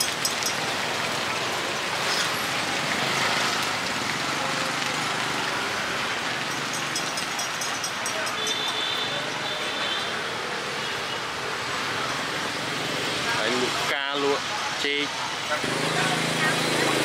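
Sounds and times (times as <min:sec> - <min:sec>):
traffic: 0:00.0 - 0:17.0.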